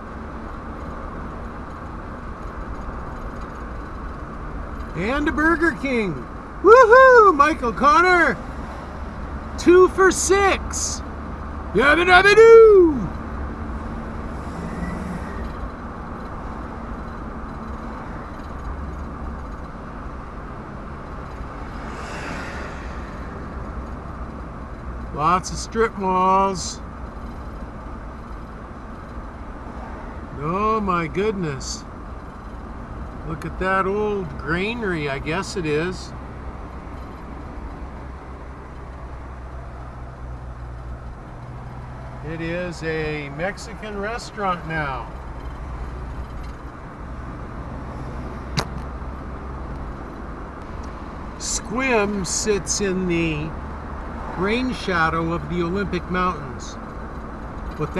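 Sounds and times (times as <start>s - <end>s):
road and engine noise in cabin: 0.0s - 57.9s.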